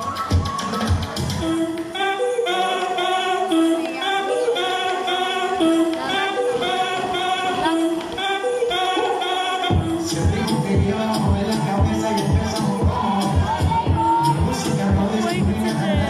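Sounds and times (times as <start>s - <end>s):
dance music: 0.0s - 16.0s
held vocal notes: 0.6s - 16.0s.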